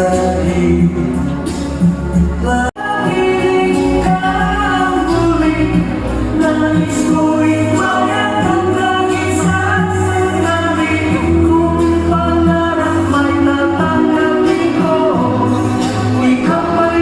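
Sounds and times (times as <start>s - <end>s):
song with singing voice and bass: 0.0s - 17.0s.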